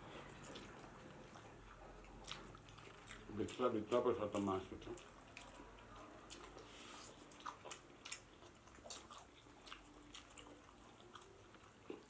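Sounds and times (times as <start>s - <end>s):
person chewing and lip-smacking: 0.0s - 12.0s.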